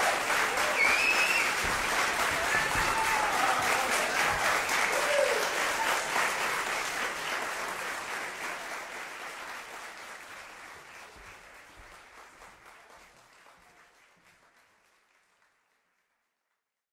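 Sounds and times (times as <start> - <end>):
audience applause: 0.0 - 16.4.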